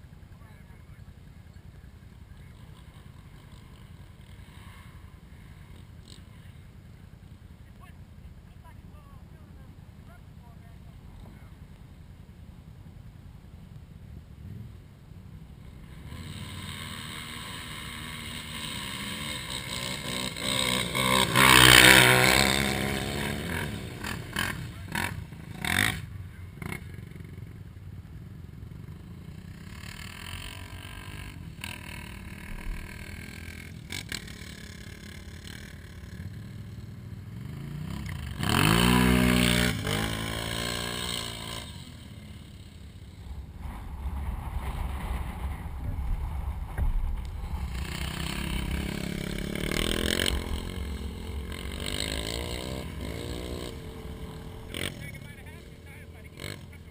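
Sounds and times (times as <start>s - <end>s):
atv engines running: 0.0s - 56.9s.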